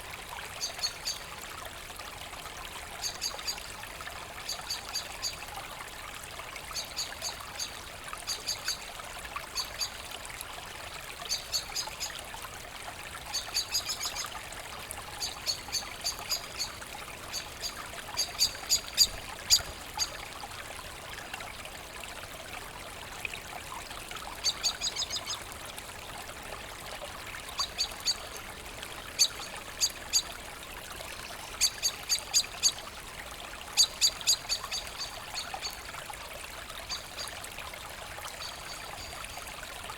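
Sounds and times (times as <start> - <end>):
brook trickling: 0.0 - 39.9.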